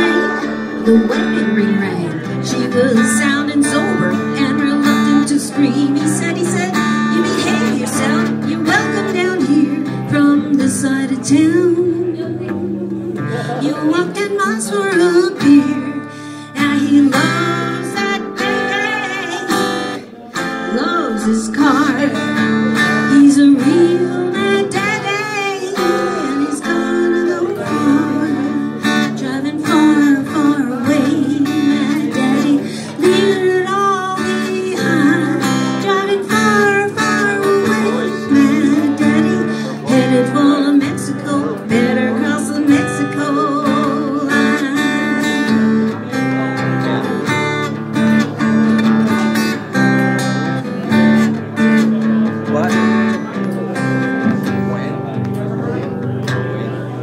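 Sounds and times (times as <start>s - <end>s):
woman singing: 0.0s - 46.0s
acoustic guitar: 0.0s - 57.0s.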